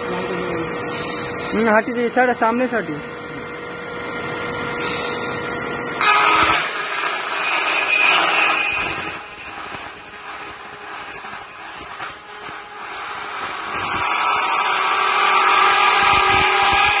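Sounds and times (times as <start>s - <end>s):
machine whine: 0.0s - 17.0s
roll forming machine running: 0.0s - 17.0s.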